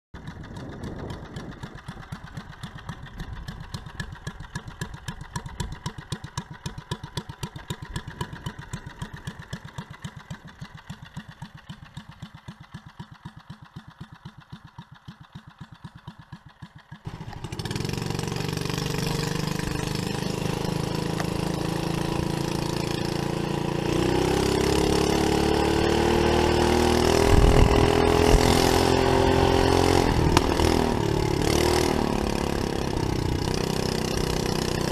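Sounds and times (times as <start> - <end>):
small engine idling and revving: 0.2 - 34.9.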